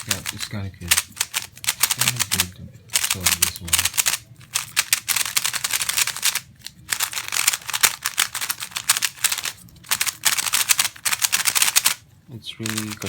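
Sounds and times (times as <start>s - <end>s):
speed cube plastic clacking: 0.0s - 12.0s, 12.6s - 13.0s.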